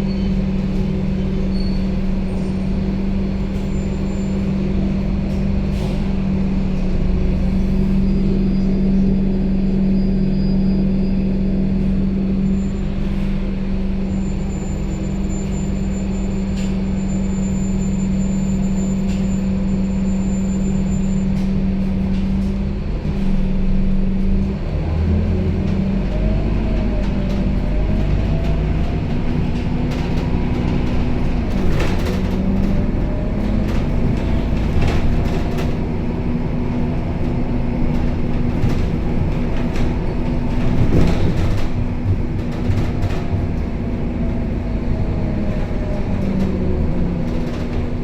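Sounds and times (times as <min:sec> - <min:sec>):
bus body rattling: 0:00.0 - 0:48.0
bus diesel engine hum: 0:00.0 - 0:48.0.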